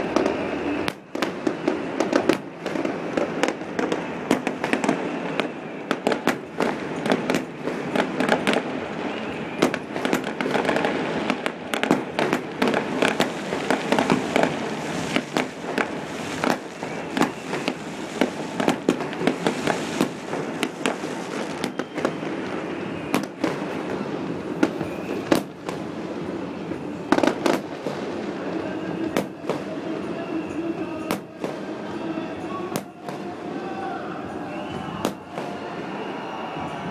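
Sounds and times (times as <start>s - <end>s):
fireworks bangs: 0.0s - 36.9s.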